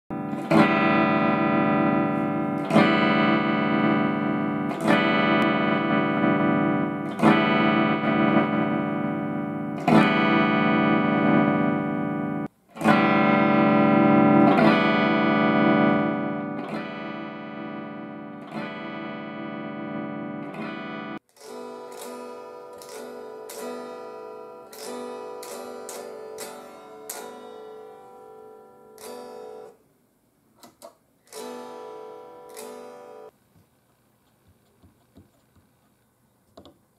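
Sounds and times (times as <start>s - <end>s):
electric guitar chords through amp: 0.1s - 29.8s, 31.3s - 33.3s
picked guitar notes: 0.1s - 29.8s, 30.8s - 33.3s.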